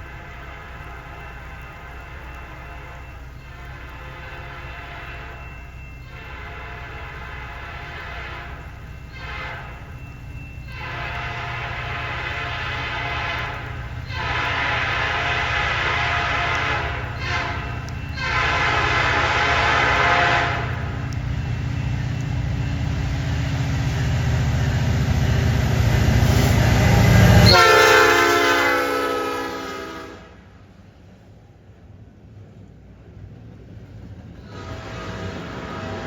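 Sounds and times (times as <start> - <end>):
train air horn blasts: 0.0 - 30.6, 34.4 - 36.0
diesel engines rumbling: 0.0 - 36.0.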